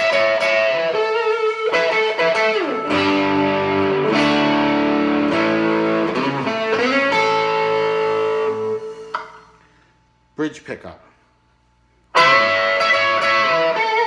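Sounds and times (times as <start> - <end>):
electric guitar ringing notes: 0.0 - 10.0, 12.1 - 14.0.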